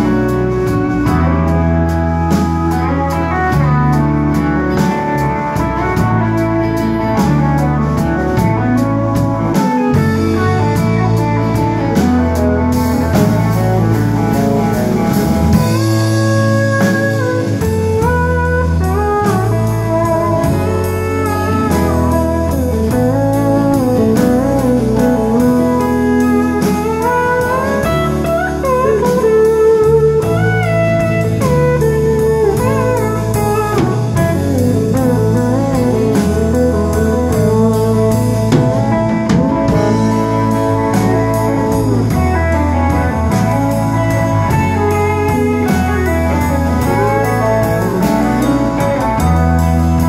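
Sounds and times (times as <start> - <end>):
blues band playing: 0.0 - 50.0
lap steel guitar gliding: 0.0 - 50.0.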